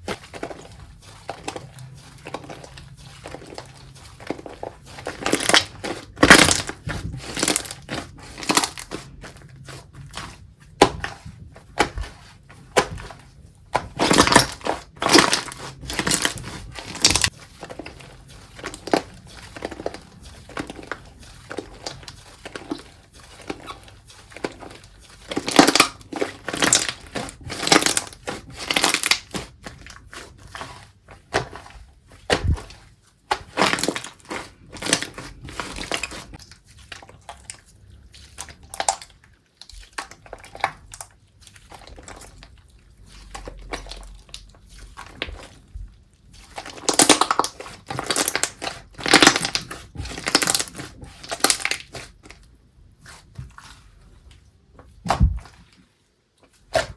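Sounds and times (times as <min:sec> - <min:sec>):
slime squishing by hand: 0:00.0 - 0:56.9.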